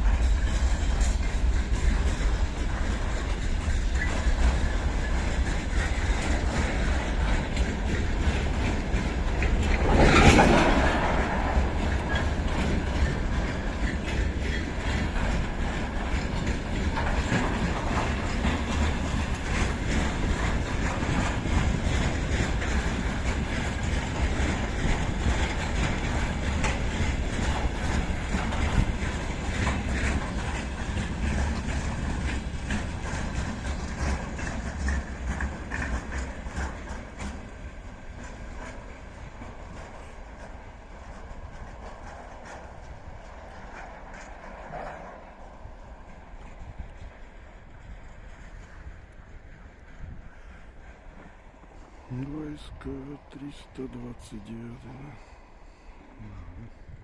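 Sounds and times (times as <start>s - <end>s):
freight train rumble: 0.0s - 57.0s
train wheels clicking over rail joints: 0.0s - 57.0s.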